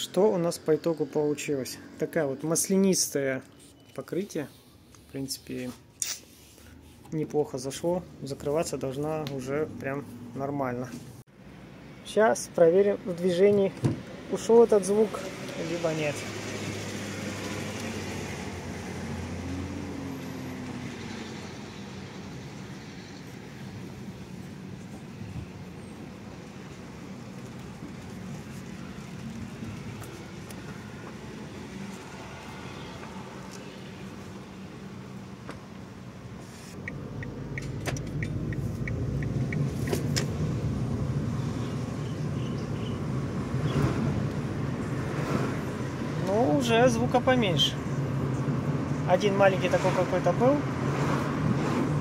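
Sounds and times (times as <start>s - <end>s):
road and engine noise in cabin: 0.0s - 52.0s.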